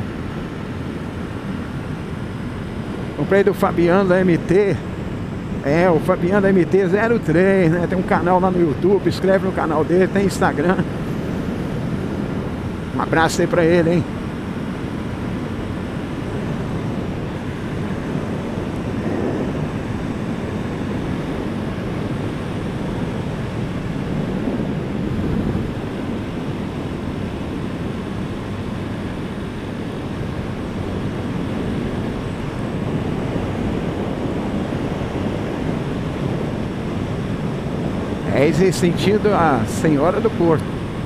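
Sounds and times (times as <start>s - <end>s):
motorcycle engine cruising: 0.0s - 41.0s
wind rushing over microphone: 0.0s - 41.0s.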